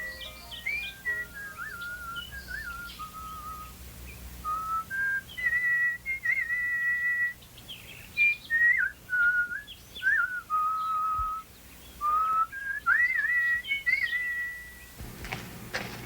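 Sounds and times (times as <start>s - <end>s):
whistled bird-like tune: 0.0s - 3.8s, 4.4s - 15.0s.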